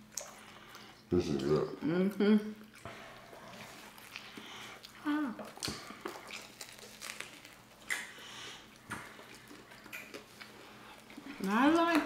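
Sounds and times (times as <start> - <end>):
chewing and smacking: 0.0 - 1.6, 2.6 - 12.0.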